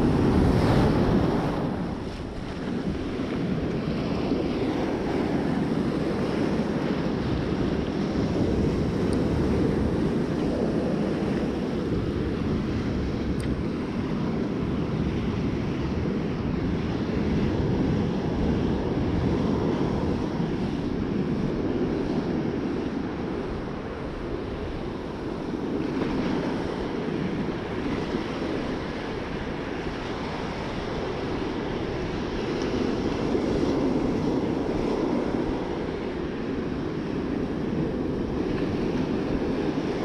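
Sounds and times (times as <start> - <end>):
surf breaking on beach: 0.0 - 40.0
wind rumbling on microphone: 0.0 - 40.0.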